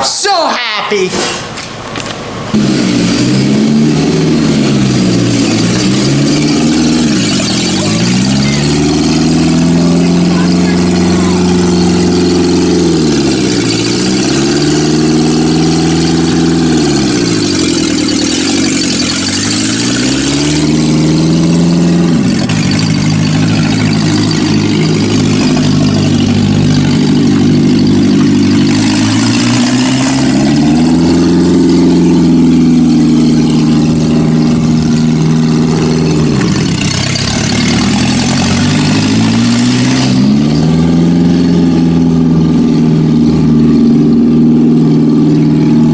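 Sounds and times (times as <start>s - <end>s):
car engine running under load: 0.9s - 45.9s.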